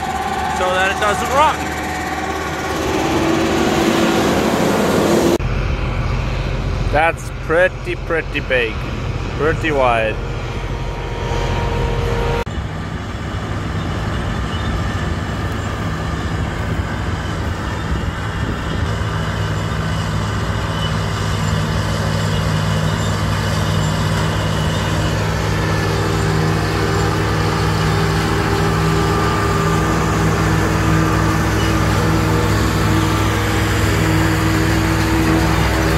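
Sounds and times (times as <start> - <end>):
diesel swather driving past: 0.0 - 35.9
tractor engine drone: 0.0 - 35.9.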